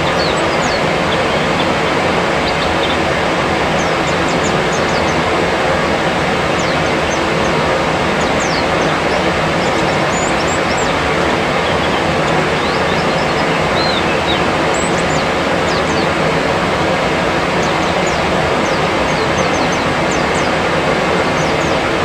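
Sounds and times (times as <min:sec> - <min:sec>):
loud steady rushing noise: 0:00.0 - 0:22.0
small birds chirping: 0:00.0 - 0:22.0.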